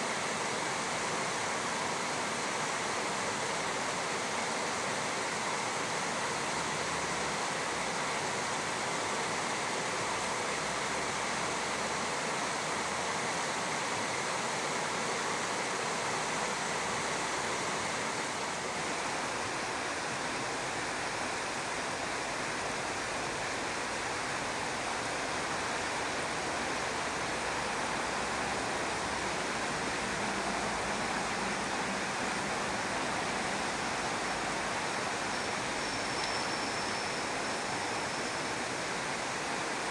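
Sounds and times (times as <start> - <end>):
river water rushing over gravel: 0.0 - 39.9.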